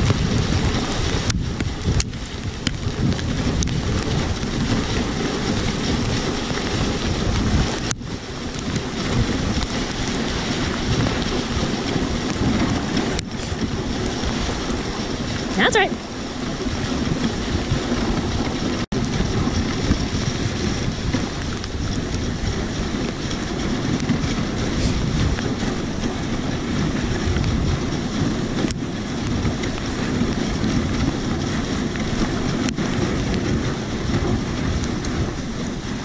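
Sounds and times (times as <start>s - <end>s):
wind buffeting microphone: 0.0s - 36.0s
sled runners hissing on snow: 2.9s - 36.0s.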